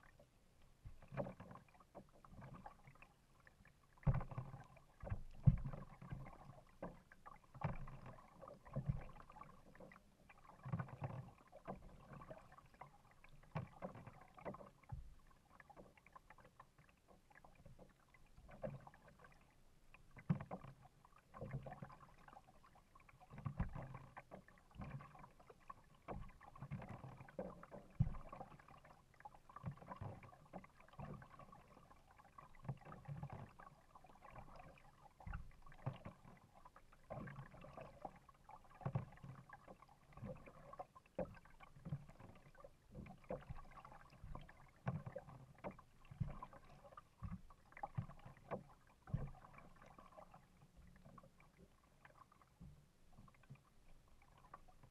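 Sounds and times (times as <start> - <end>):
kayak paddle splashing: 0.0 - 54.9
water sloshing against hull: 0.0 - 54.9.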